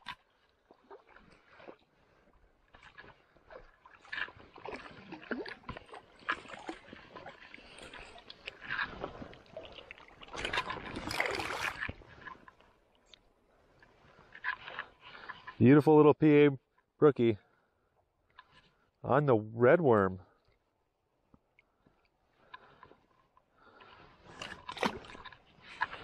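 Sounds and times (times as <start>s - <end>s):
water splashing and sloshing: 0.0s - 15.6s, 16.3s - 19.0s, 20.2s - 26.0s.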